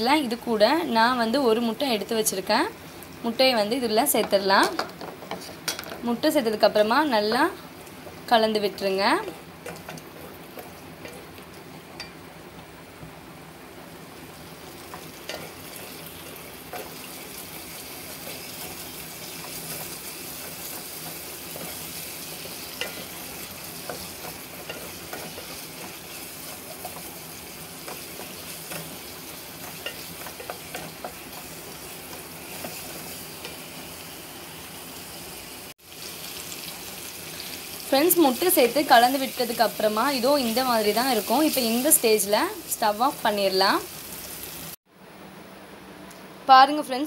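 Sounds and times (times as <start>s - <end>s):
food sizzling in oil: 0.0s - 44.8s.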